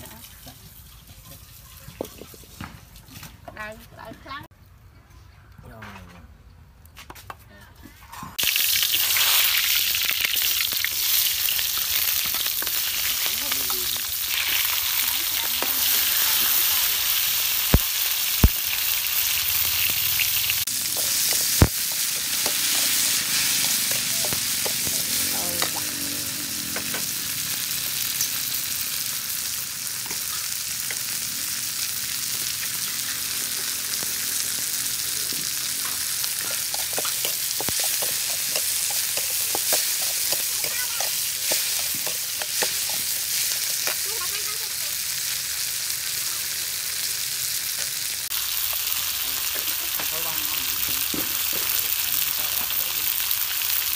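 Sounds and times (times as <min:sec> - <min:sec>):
food sizzling in oil: 0:00.0 - 0:03.7, 0:08.4 - 0:53.9.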